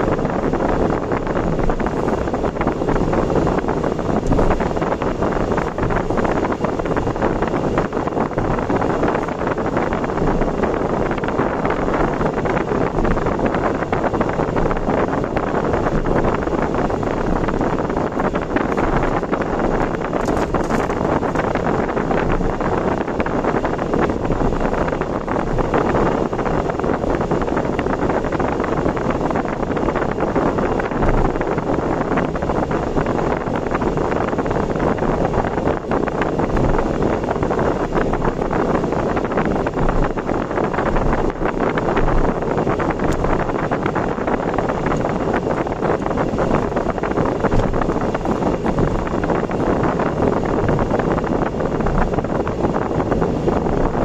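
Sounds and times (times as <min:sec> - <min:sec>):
road and wind noise: 0:00.0 - 0:54.0
wind buffeting microphone: 0:00.0 - 0:54.0.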